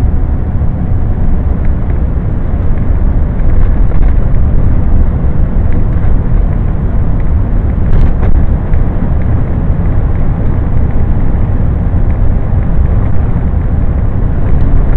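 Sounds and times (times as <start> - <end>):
truck engine rumble: 0.0 - 14.9
wind noise: 0.0 - 14.9.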